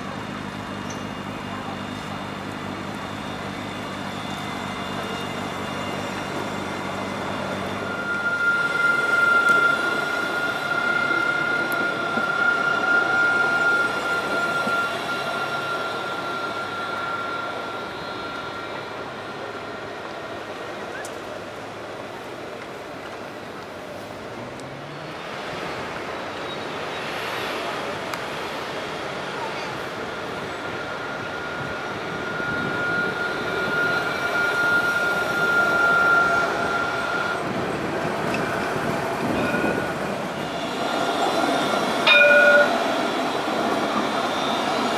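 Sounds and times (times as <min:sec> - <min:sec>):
high-pitched whine: 0:00.0 - 0:23.6, 0:24.8 - 0:44.9
tram wheels squealing: 0:00.0 - 0:24.3, 0:25.1 - 0:44.9
wheels rumbling on rail: 0:00.0 - 0:44.9.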